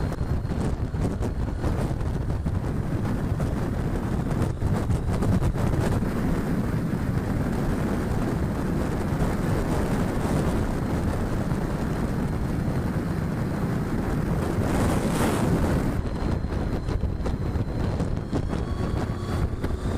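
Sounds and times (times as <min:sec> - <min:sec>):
motorcycle engine and road noise: 0:00.0 - 0:19.9
wind buffeting microphone: 0:00.0 - 0:19.9.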